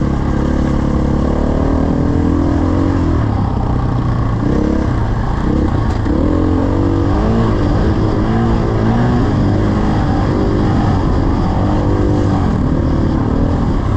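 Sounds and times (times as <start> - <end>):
dirt bike engine revving: 0.0 - 13.9.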